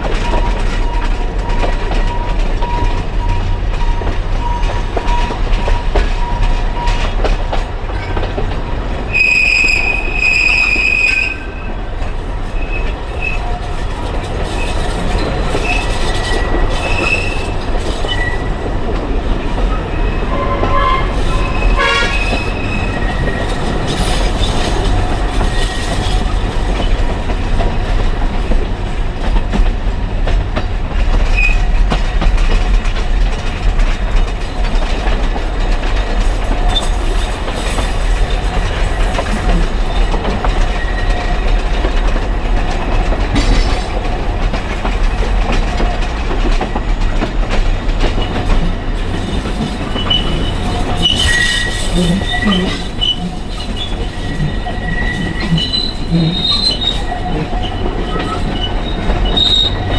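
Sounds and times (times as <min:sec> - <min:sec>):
train rumble: 0:00.0 - 0:59.9
wheels clacking over rails: 0:00.0 - 0:59.9.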